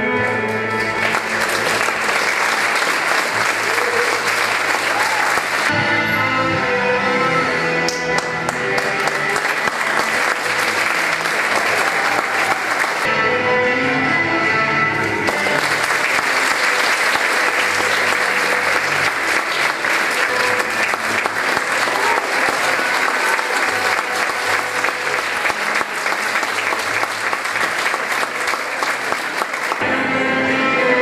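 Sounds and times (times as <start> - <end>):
audience applauding: 0.3 - 5.7, 7.9 - 13.1, 15.0 - 29.9.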